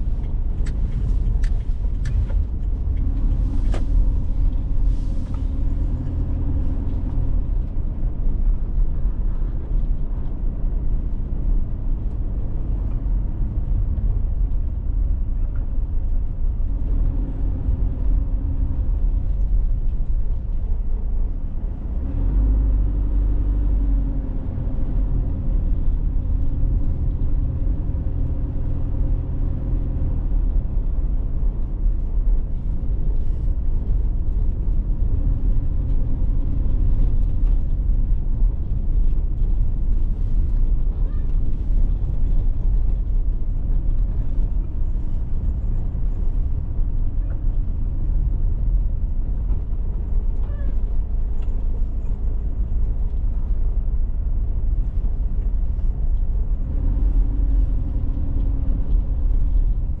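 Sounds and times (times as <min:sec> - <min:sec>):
car engine rumble: 0:00.0 - 1:00.0
tyres on the road: 0:00.0 - 1:00.0.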